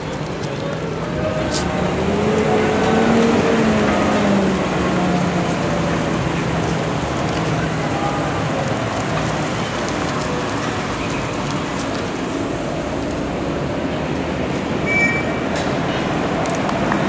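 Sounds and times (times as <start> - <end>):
armoured car engines rumbling: 0.0 - 17.0.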